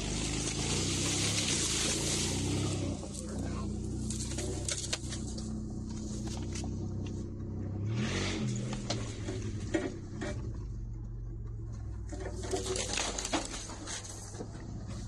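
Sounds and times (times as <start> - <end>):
car engine running: 0.0 - 15.0
knocks and rattles on bumpy trail: 0.0 - 15.0.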